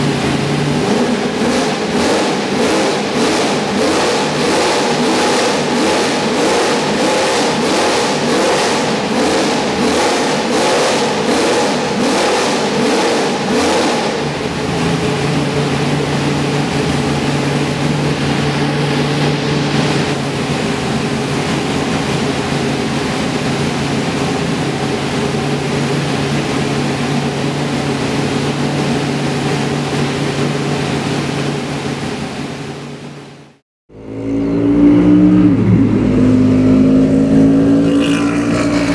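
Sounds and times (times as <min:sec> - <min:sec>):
race car engine revving: 0:00.0 - 0:32.2, 0:33.9 - 0:38.9.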